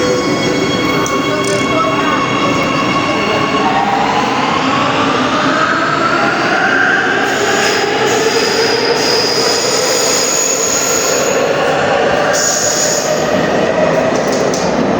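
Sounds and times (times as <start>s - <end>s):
rumble of running train: 0.0s - 14.9s.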